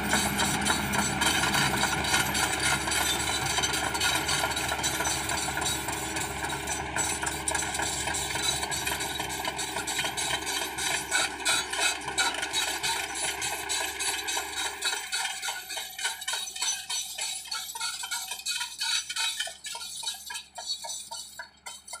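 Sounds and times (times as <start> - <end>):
excavator engine rumbling: 0.0 - 22.0
rhythmic clinking ticks: 0.1 - 22.0.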